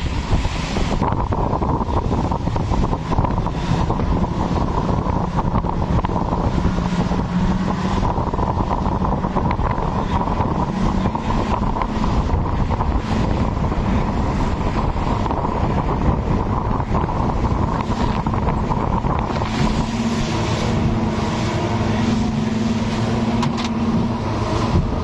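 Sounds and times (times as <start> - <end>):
outboard motors droning: 0.0 - 25.0
rush of boat wake: 0.0 - 25.0
wind buffeting microphone: 0.0 - 25.0.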